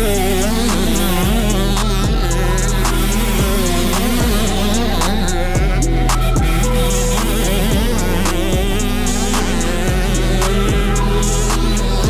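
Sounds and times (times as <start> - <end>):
hip hop music with heavy bass: 0.0 - 12.0.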